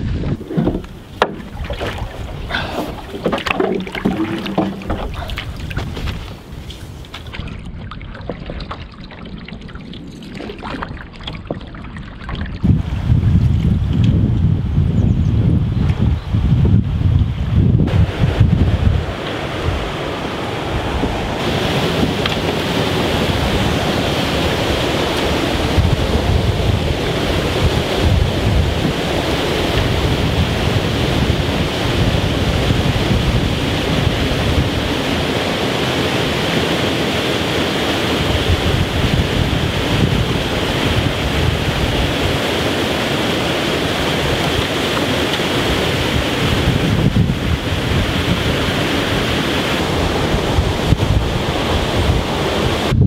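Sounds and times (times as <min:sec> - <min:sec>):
water rushing over weir: 0:00.0 - 0:13.2, 0:17.9 - 0:53.0.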